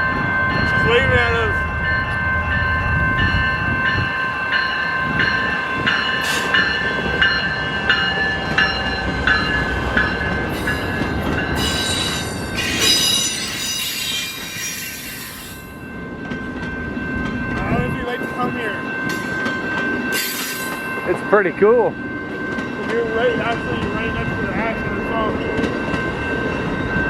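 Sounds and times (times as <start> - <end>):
crossing bell ringing: 0.0 - 27.0
train wheels squealing on rails: 0.0 - 27.0.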